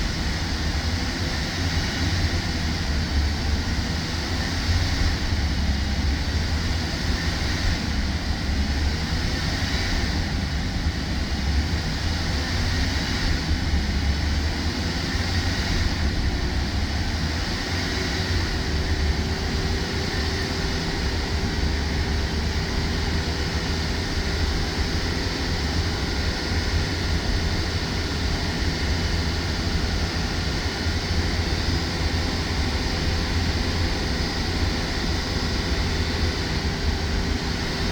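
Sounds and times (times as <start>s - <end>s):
car engine running steadily: 0.0s - 37.9s.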